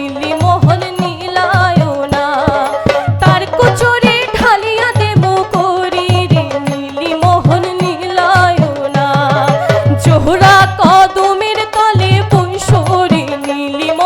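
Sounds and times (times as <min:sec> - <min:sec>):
folk melody over hand drum: 0:00.0 - 0:14.0.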